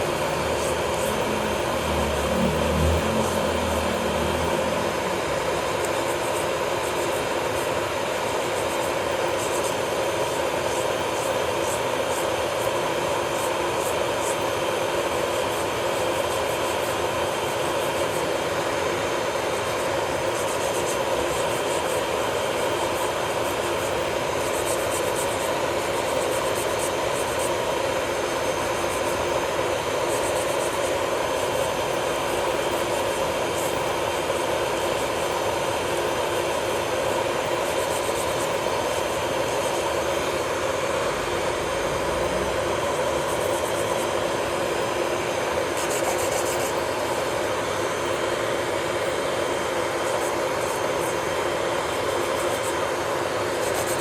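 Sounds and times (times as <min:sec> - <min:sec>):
electric nail drill running: 0:00.0 - 0:54.0.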